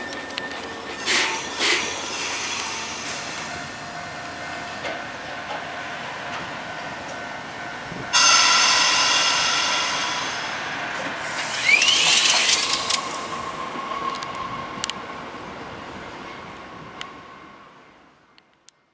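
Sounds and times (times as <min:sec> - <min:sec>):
electric train pulling away: 0:00.0 - 0:17.7.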